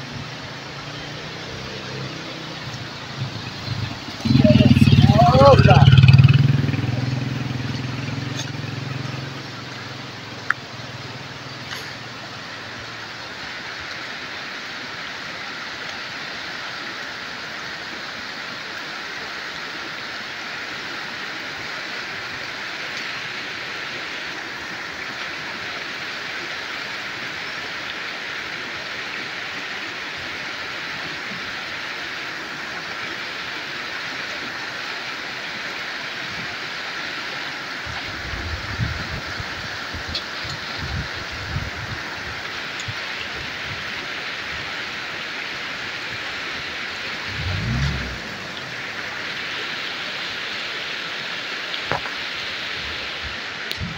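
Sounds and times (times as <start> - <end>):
river rushing over stones: 0.0 - 53.9.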